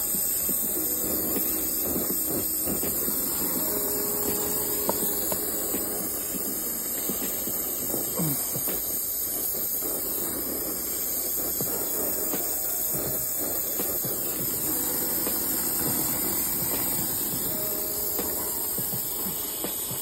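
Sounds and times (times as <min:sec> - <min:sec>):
torch flame hissing: 0:00.0 - 0:20.0.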